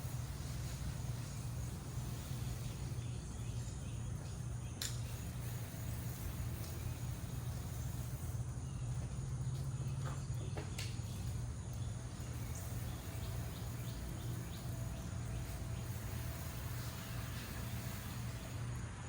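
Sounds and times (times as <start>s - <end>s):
bird or insect chirps: 0.0s - 19.0s
low mechanical hum: 0.0s - 19.0s.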